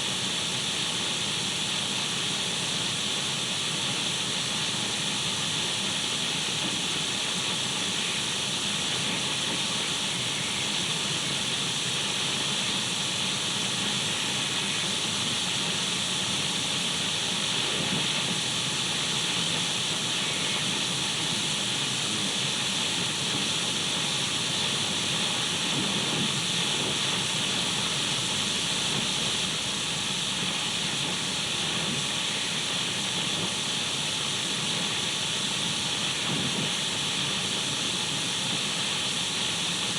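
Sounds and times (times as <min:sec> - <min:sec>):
radio static hiss: 0:05.8 - 0:39.9.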